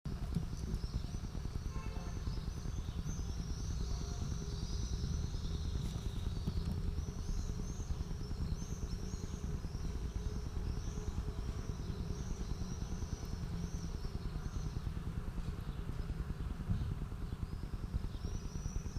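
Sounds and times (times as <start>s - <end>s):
steady low rumble: 0.1s - 18.9s.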